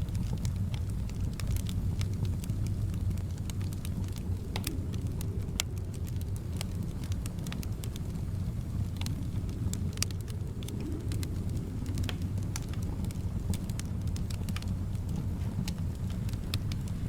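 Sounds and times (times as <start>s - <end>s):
soft wind: 0.0s - 17.0s
wood fire crackling: 0.0s - 17.0s.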